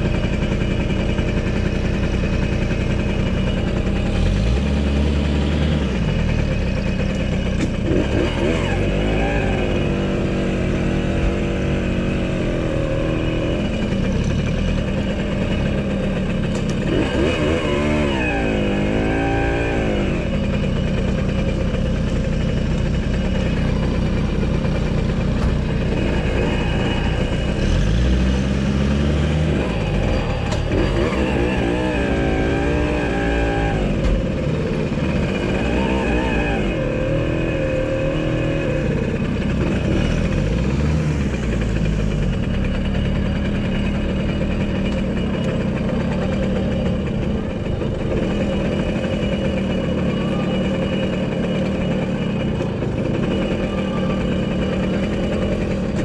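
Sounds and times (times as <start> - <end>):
small motorcycle engine revving: 0.0 - 56.0.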